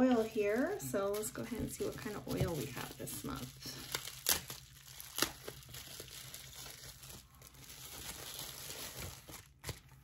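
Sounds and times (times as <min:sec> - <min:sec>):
wrapping crumpling and crackling: 0:00.0 - 0:10.0.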